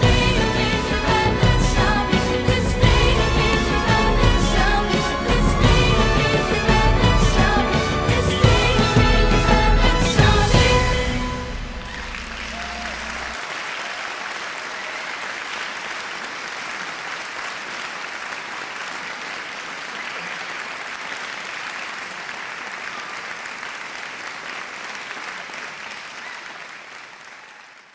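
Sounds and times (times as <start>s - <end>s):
large crowd applauding: 0.0s - 27.9s.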